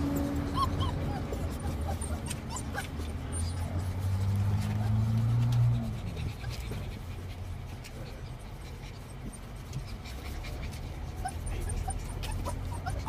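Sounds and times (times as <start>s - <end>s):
car rumbling: 0.0s - 13.0s
puppies panting: 0.0s - 13.0s.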